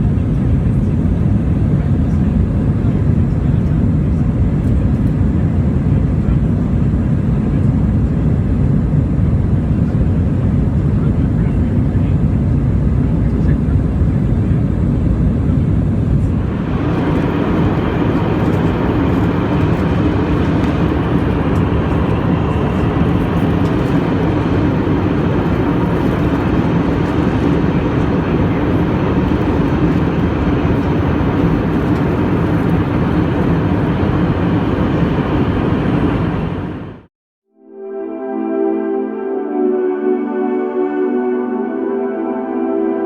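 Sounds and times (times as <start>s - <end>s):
jet engines rumbling in cabin: 0.0s - 37.1s.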